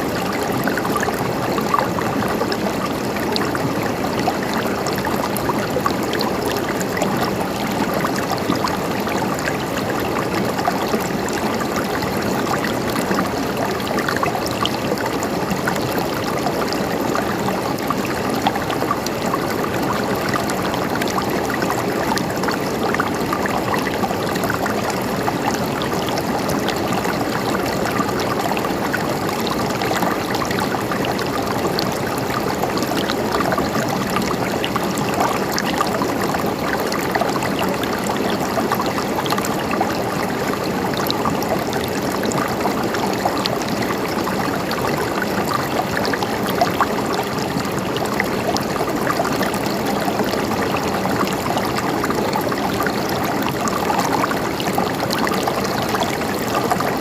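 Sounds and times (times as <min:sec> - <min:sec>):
stream water gurgling: 0:00.0 - 0:57.0.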